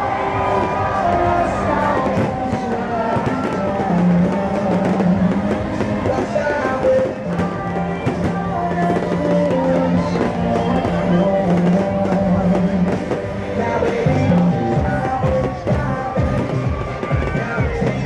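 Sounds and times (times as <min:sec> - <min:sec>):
loud music with drums: 0:00.1 - 0:18.0.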